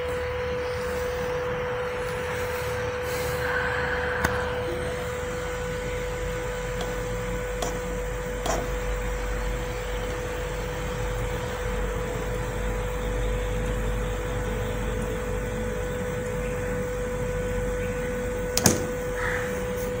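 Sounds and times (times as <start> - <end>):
stepper motor humming: 0.0 - 20.0.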